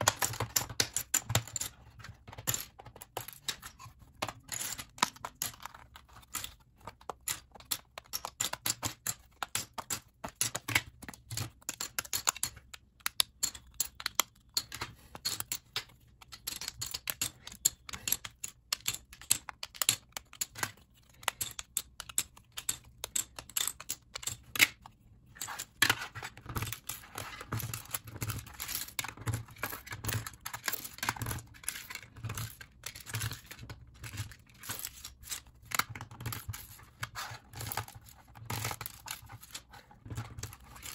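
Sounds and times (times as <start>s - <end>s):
plastic bricks clicking and clattering: 0.0s - 40.9s.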